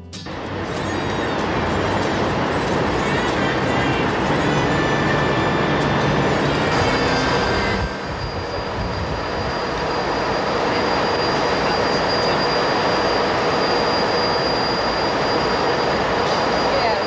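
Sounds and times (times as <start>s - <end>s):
locomotive engine rumble: 0.0s - 17.0s
thin high whine: 0.0s - 17.0s.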